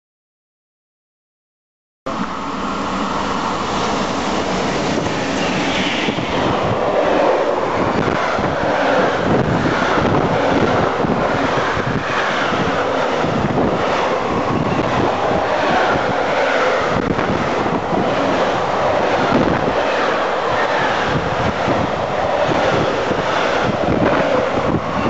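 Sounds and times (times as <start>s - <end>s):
train running on rails: 2.1s - 25.0s
wind buffeting microphone: 3.1s - 25.0s.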